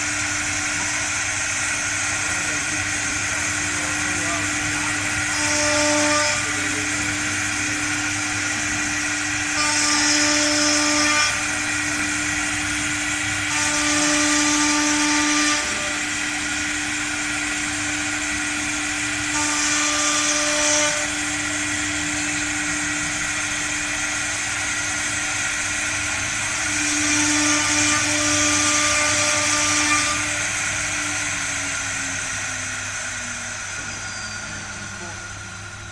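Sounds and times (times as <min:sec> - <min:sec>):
router bit cutting wood: 0:00.0 - 0:34.8
router spindle whine: 0:00.0 - 0:35.9.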